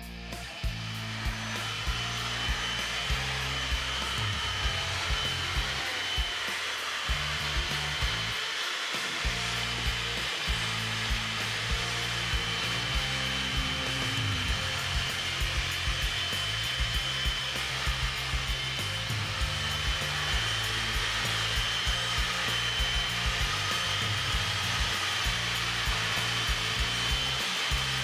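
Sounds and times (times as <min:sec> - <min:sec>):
background music with beat: 0:00.0 - 0:28.0
small electric motor whirring: 0:00.0 - 0:28.0.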